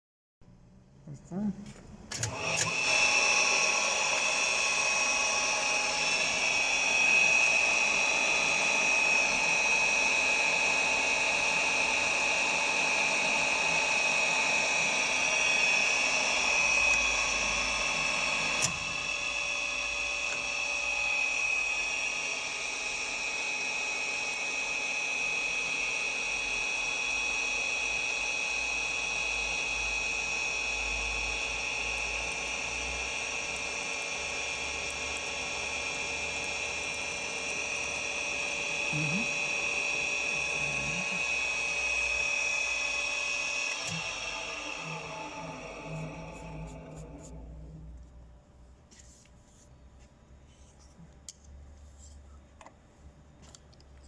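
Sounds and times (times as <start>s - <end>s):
drill press whine: 2.1s - 48.0s.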